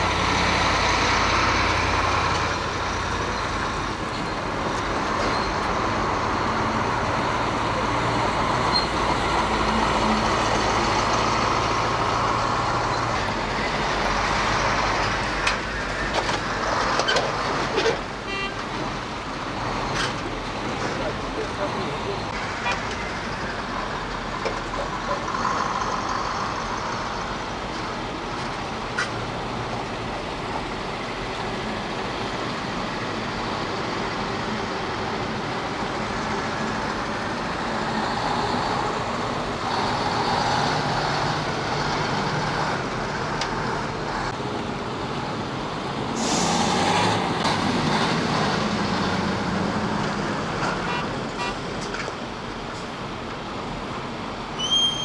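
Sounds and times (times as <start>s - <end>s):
heavy trucks driving past: 0.0s - 55.0s.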